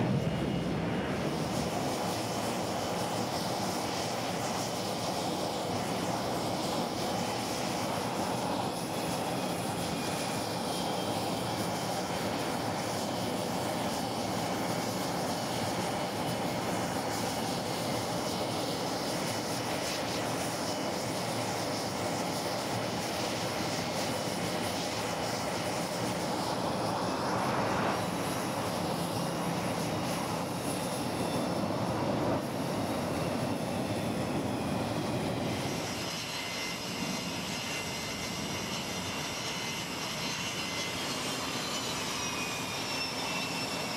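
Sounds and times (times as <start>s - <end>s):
faint high whine: 0.0s - 43.9s
jet engines rushing: 0.0s - 43.9s.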